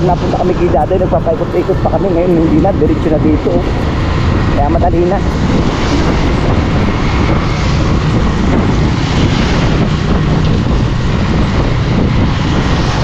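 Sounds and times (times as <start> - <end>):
rumble of engine and tyres: 0.0 - 13.0
wind buffeting microphone: 0.0 - 13.0.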